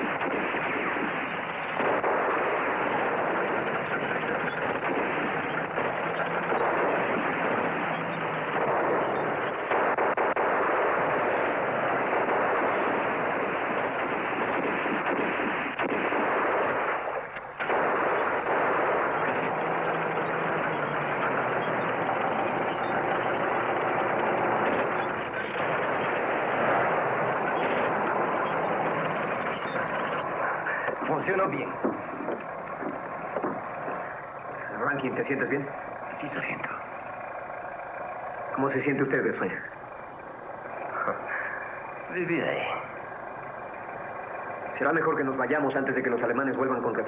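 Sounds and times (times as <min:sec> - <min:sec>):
bulldozer engine running: 0:00.0 - 0:47.0
explosions: 0:00.0 - 0:47.0
gunfire: 0:00.0 - 0:47.0.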